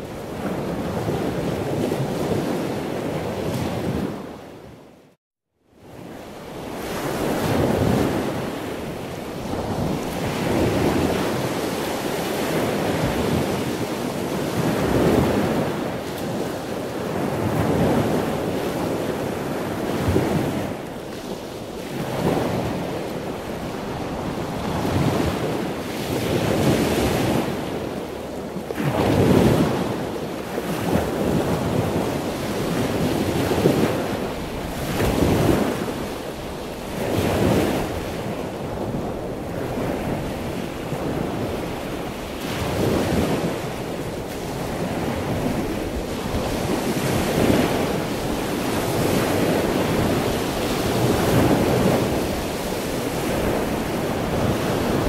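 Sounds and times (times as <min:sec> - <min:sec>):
surf waves washing in: 0:00.0 - 0:04.9, 0:05.8 - 0:55.0.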